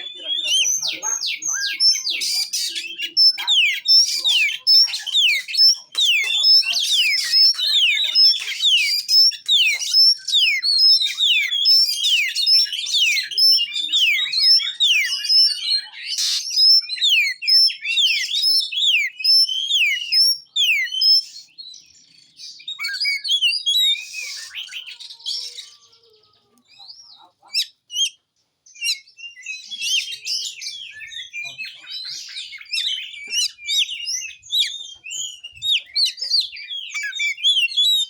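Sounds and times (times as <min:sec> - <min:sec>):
bird singing whistled notes: 0:00.0 - 0:25.8, 0:27.6 - 0:38.0.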